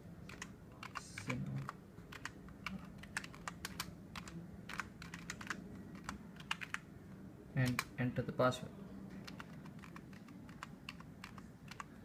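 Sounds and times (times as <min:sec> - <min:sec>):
keyboard typing: 0:00.2 - 0:06.8, 0:07.6 - 0:08.0, 0:09.2 - 0:12.0.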